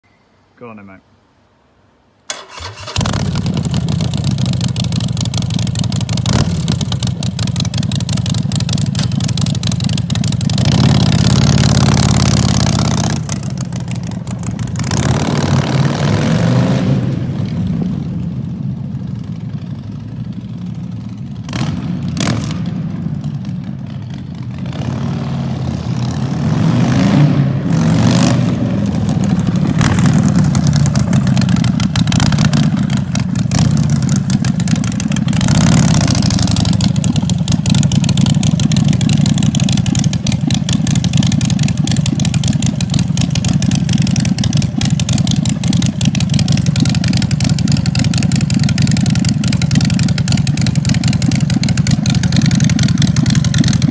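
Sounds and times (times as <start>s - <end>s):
motorcycle engine idling and revving: 2.3s - 53.9s.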